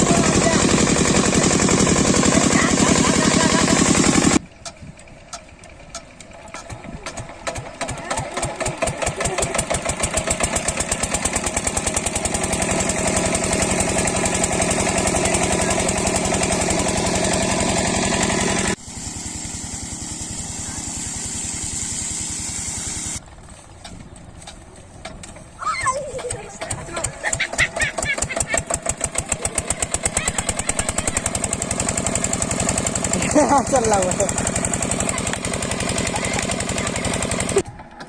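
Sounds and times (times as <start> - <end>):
diesel pump engine running: 0.0 - 38.0.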